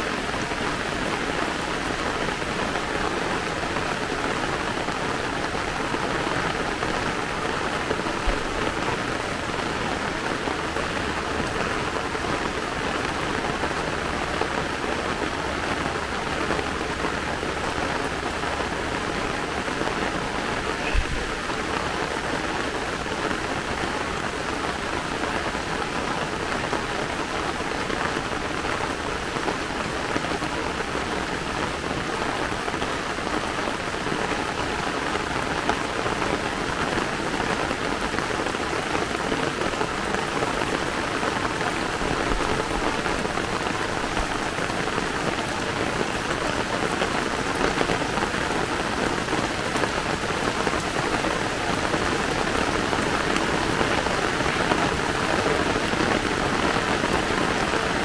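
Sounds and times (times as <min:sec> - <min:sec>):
heavy rain hissing: 0:00.0 - 0:58.0
raindrops hitting umbrella: 0:00.0 - 0:58.0.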